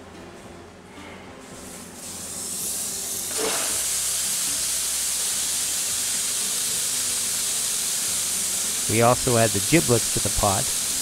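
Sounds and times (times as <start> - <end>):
turkey sizzling in hot pot: 1.7 - 11.0.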